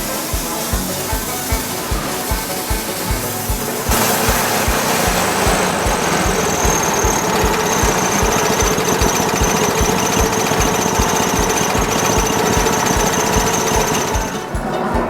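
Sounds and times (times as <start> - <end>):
steady whine: 0.0 - 14.7
band sawmill running: 0.0 - 15.0.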